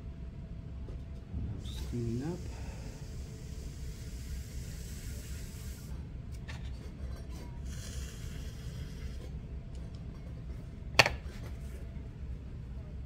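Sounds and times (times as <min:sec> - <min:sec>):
potter's wheel humming: 0:00.0 - 0:13.0.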